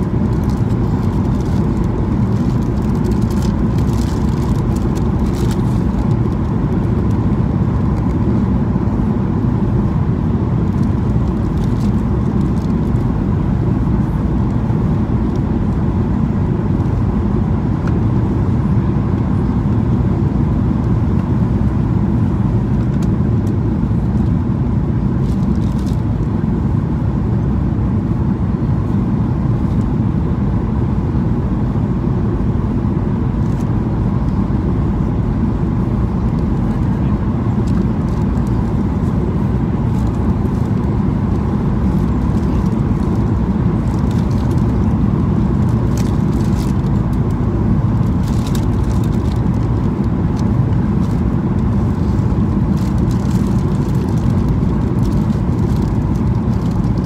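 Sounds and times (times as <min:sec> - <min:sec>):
airflow along fuselage: 0:00.0 - 0:57.0
jet engine rumble: 0:00.0 - 0:57.0.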